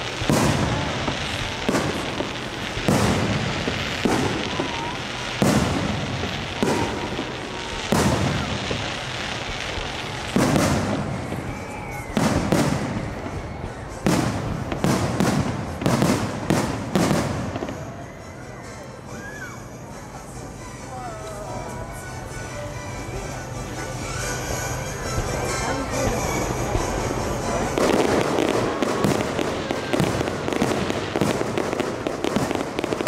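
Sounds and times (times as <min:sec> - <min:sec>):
fireworks bangs: 0:00.0 - 0:19.0, 0:22.0 - 0:33.0.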